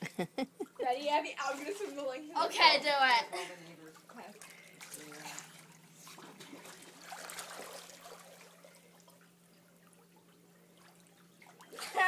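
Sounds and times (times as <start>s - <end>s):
steady low hum: 0.0s - 12.0s
pool water splashing: 0.6s - 12.0s.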